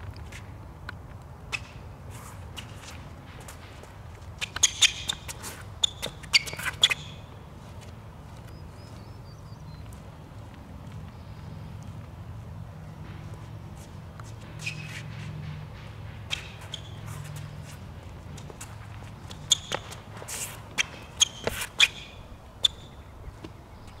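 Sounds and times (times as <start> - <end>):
shoes squeaking on hard court: 1.5 - 12.0, 13.0 - 24.0.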